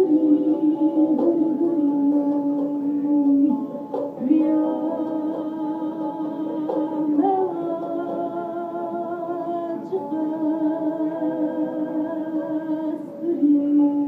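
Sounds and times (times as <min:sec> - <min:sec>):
woman singing folk song: 0:00.0 - 0:14.0.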